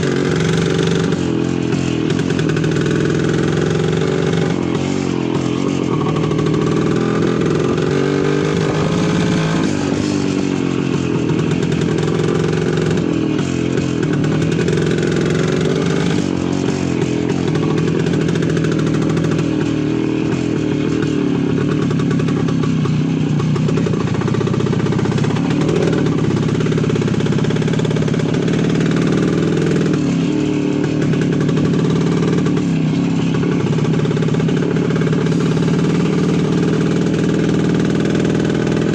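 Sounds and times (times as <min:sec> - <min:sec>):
two-stroke motorcycle engine: 0:00.0 - 0:38.9.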